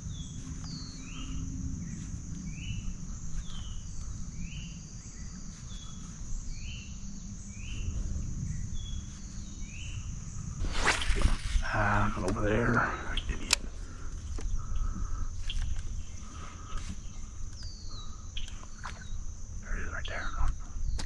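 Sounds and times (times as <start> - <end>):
bird chirping: 0.0 - 21.0
insect drone: 0.0 - 21.0.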